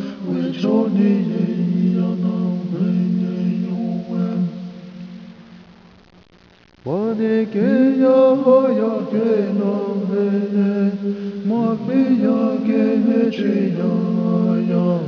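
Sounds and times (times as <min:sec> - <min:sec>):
unaccompanied chanting voice: 0:00.0 - 0:05.2, 0:06.9 - 0:15.0.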